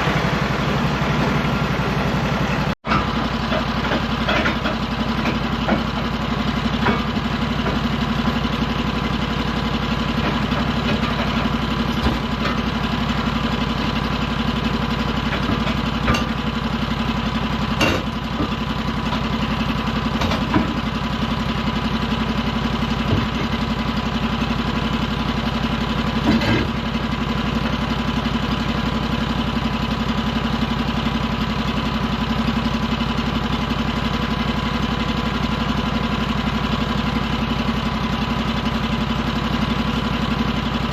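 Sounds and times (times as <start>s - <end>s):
sawmill engine idling: 0.0s - 40.9s.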